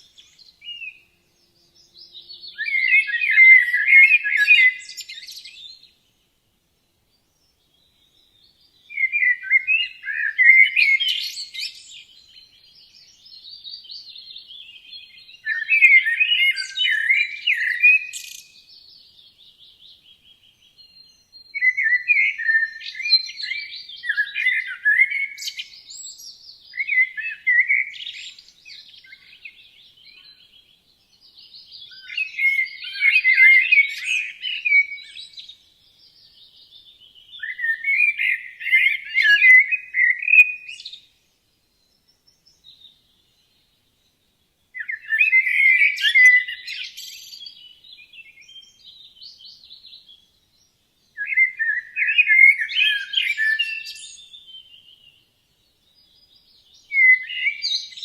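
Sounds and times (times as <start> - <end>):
songbird twittering: 0.0 - 6.2, 7.3 - 58.0.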